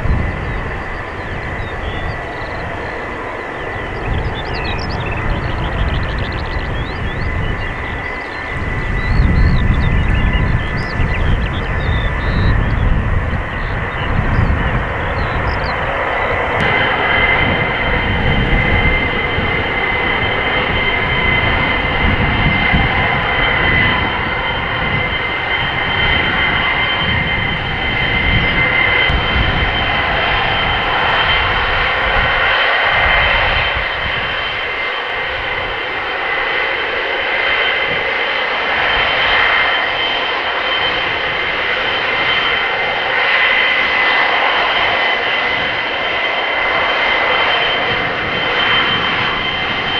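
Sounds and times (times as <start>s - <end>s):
high steady engine whines: 0.0s - 49.9s
loud jet engine noise: 0.0s - 49.9s
low gusty rumble: 0.0s - 49.9s.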